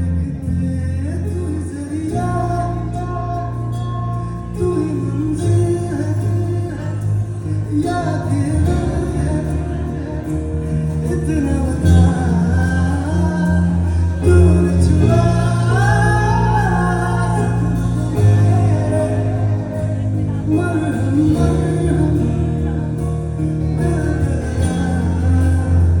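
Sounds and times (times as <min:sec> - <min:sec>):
bass and instrumental accompaniment: 0:00.0 - 0:26.0.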